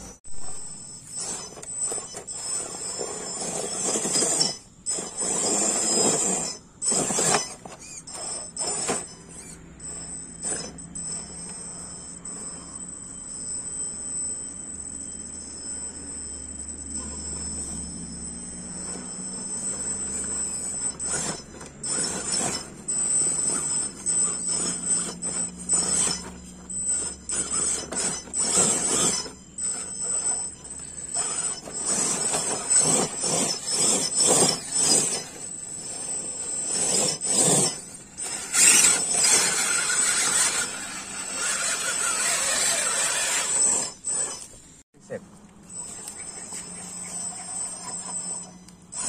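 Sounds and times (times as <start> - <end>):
rc truck motor whining: 0.0 - 49.0.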